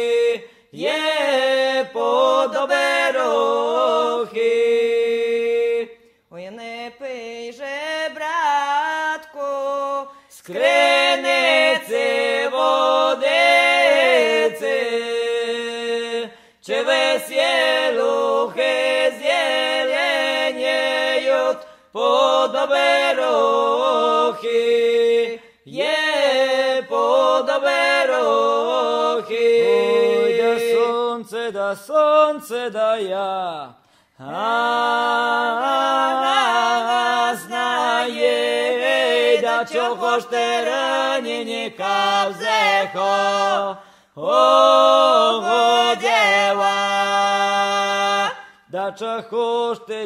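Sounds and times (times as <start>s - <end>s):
vocal group singing a cappella: 0.0s - 50.0s.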